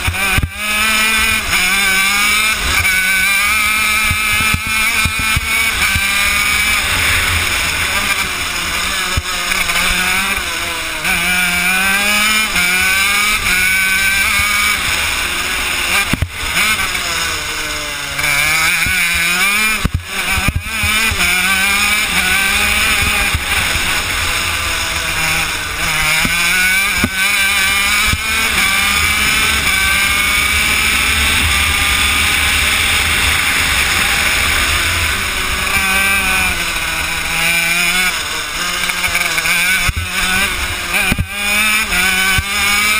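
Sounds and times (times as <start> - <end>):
two-stroke kart engine racing: 0.0 - 42.9.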